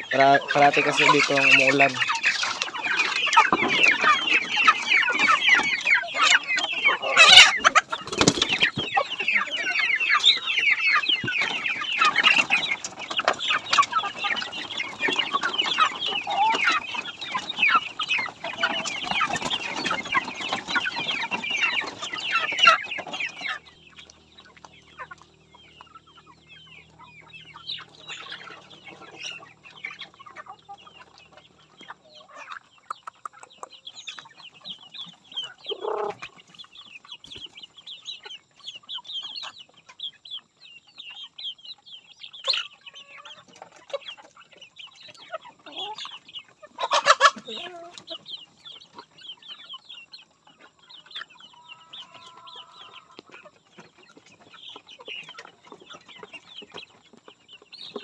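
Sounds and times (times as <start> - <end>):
chicks peeping and cheeping: 0.0 - 58.0.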